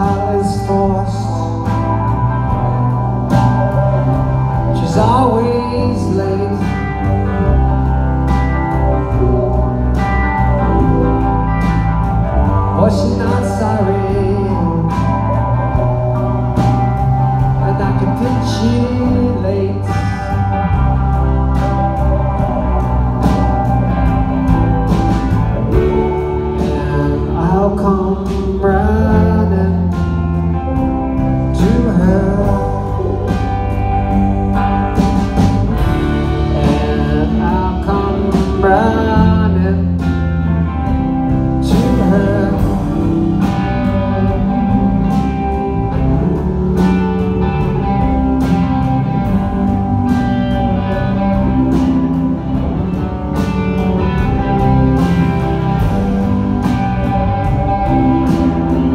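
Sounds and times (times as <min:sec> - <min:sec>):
lead guitar with bending notes: 0:00.0 - 0:58.9
rock band playing live: 0:00.0 - 0:58.9.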